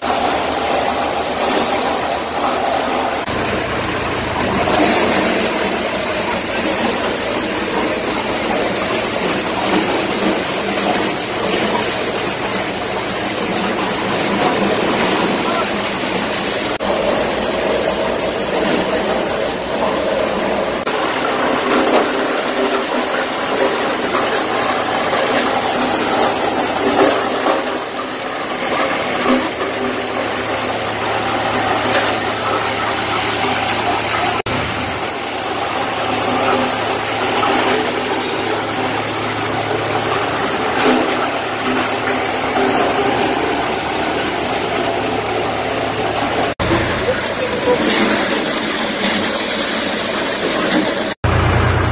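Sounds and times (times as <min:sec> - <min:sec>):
maize sheller mechanical din: 0:00.0 - 0:51.9
tractor engine: 0:00.0 - 0:51.9.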